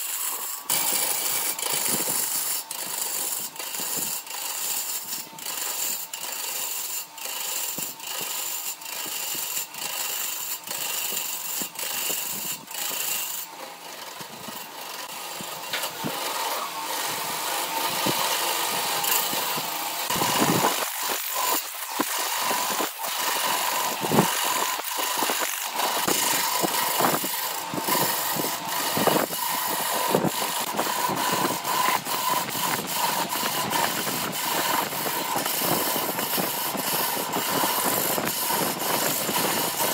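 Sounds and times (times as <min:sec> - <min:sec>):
wood lathe turning tool scraping: 0:00.0 - 0:39.9.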